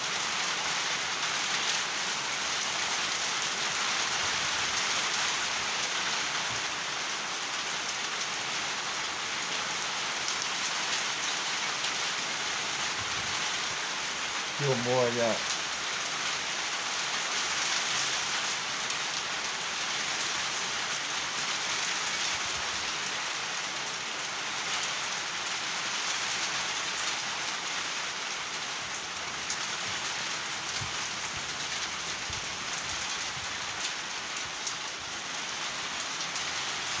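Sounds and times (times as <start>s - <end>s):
rain falling on trees and ground: 0.0s - 37.0s.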